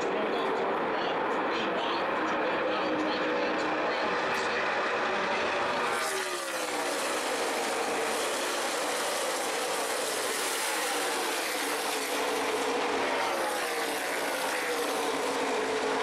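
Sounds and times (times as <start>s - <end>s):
race car engines droning past: 0.0s - 16.0s.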